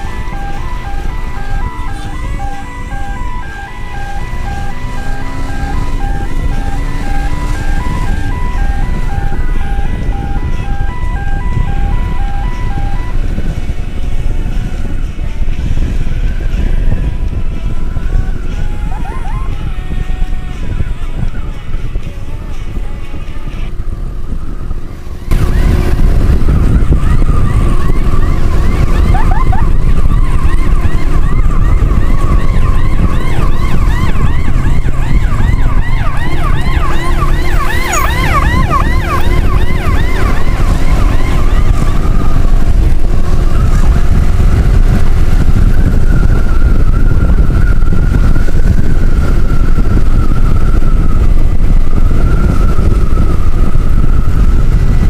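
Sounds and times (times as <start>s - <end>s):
siren yelping: 0.0s - 13.6s, 16.4s - 20.4s, 24.4s - 55.0s
siren wailing: 0.0s - 21.8s, 23.9s - 55.0s
wind and motorcycle engine rumble: 0.0s - 55.0s.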